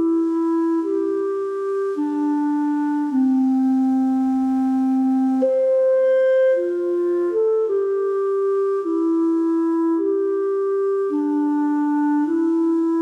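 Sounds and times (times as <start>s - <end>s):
slow clarinet melody: 0.0s - 13.0s.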